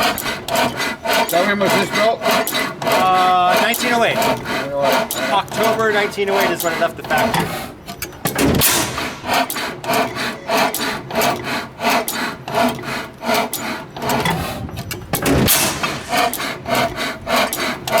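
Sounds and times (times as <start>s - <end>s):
engine running with rhythmic clatter: 0.0s - 18.0s
heavy deep engine strokes: 0.0s - 18.0s.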